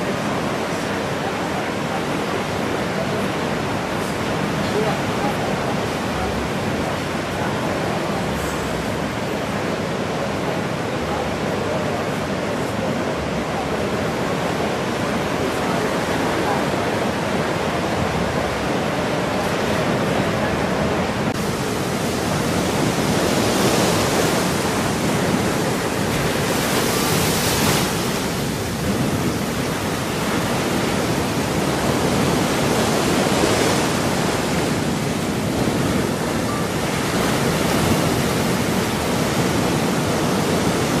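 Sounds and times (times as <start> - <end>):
ocean surf breaking: 0.0 - 41.0.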